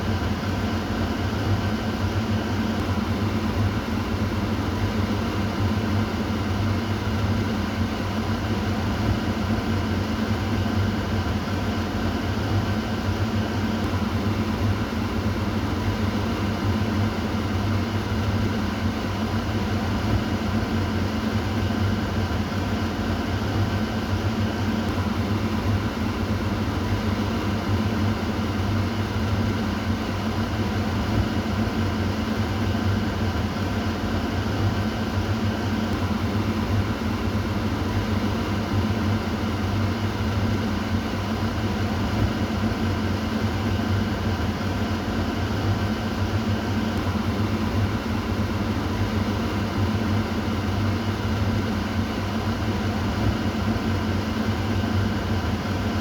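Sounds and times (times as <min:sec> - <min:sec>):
exhaust fan humming: 0:00.0 - 0:56.0.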